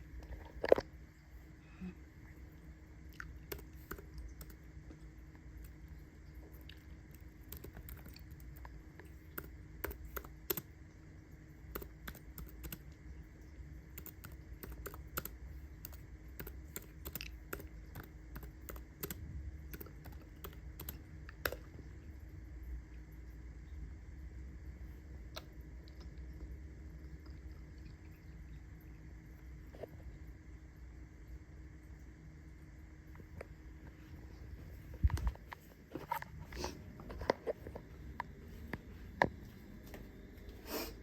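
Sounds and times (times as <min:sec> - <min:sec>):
microwave oven humming: 0:00.0 - 0:41.0.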